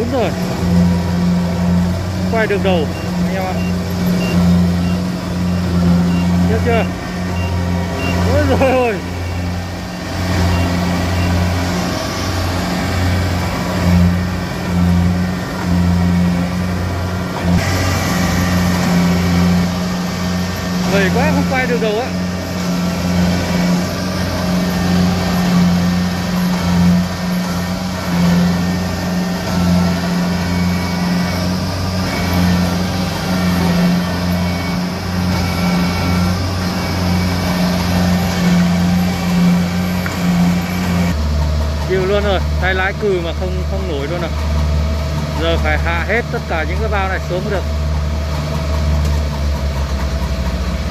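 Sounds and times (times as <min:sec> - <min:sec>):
combine harvester engine under load: 0:00.0 - 0:50.9.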